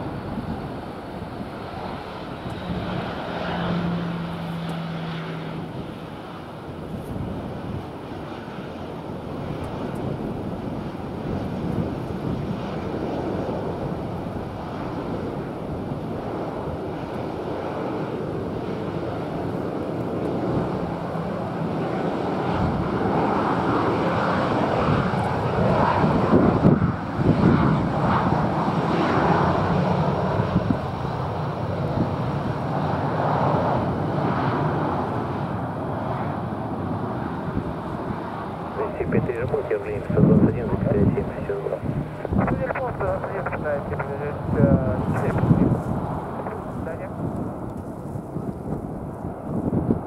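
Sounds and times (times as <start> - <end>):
jet engines rumbling: 0.0 - 50.0
wind buffeting microphone: 0.0 - 50.0.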